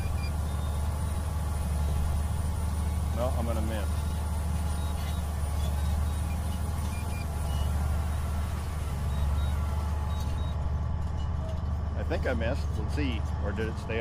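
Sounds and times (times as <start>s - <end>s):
drone propellers whirring: 0.0s - 14.0s.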